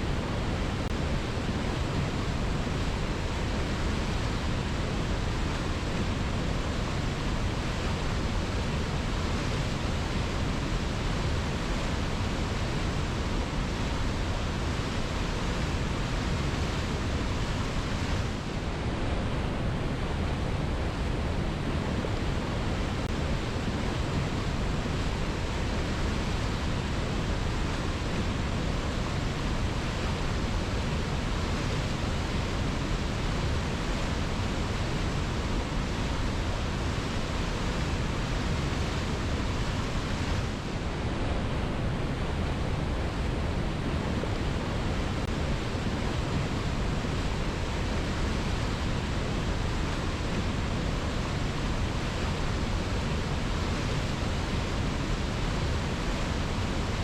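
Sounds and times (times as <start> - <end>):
waterfall rushing on rocks: 0.0 - 57.0.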